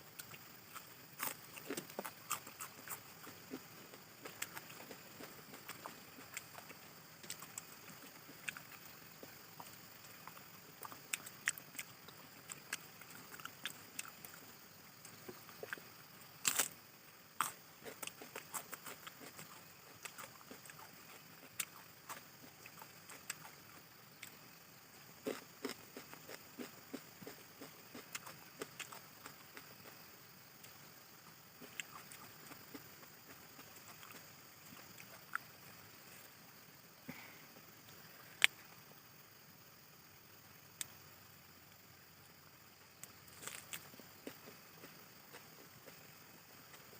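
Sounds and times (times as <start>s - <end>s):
person chewing: 0.1s - 30.0s, 31.5s - 35.6s, 43.0s - 46.9s.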